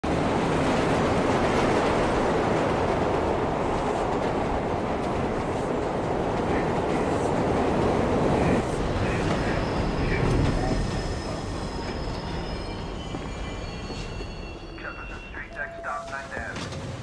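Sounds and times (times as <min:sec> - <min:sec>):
subway train rumble and rattle: 0:00.0 - 0:17.0.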